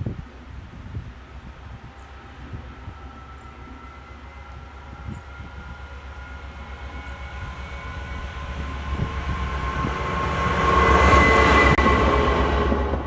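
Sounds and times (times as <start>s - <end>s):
locomotive engine throbbing and whining: 1.0s - 13.0s.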